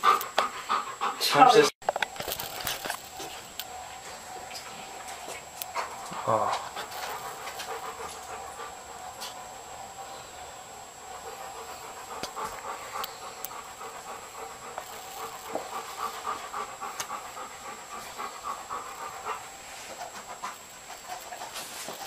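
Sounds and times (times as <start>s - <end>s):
dog panting: 0.0s - 1.7s, 2.4s - 22.0s.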